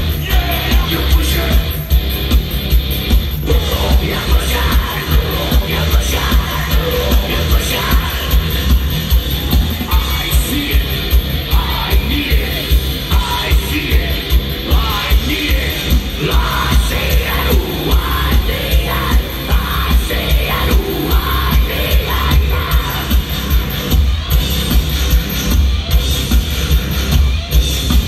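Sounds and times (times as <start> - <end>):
metal band playing live: 0.0 - 28.0.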